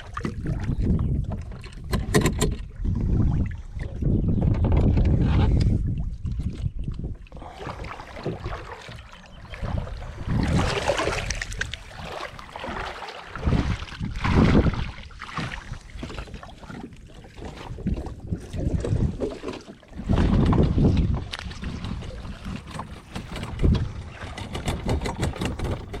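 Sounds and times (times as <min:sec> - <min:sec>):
faint water sounds: 0:00.0 - 0:26.0
wind buffeting microphone: 0:00.0 - 0:26.0.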